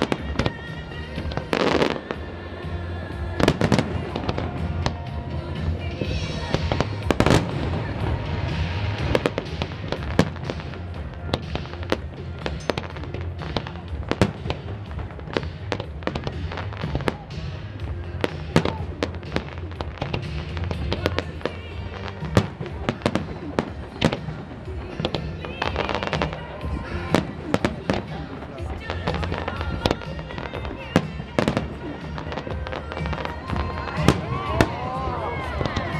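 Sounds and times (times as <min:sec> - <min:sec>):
fireworks bangs and crackles: 0:00.0 - 0:35.9
loud disco music: 0:00.0 - 0:35.9.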